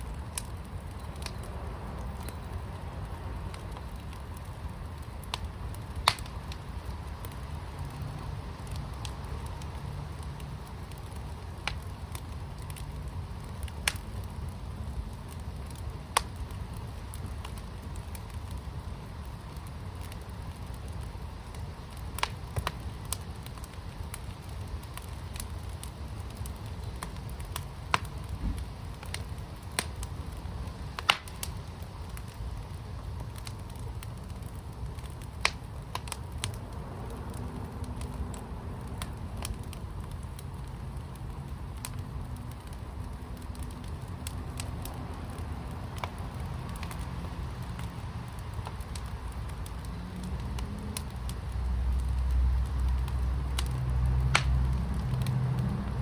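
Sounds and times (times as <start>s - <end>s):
fire crackling: 0.0s - 56.0s
low rumble of fire: 0.0s - 56.0s
sharp pops of fire: 0.0s - 56.0s.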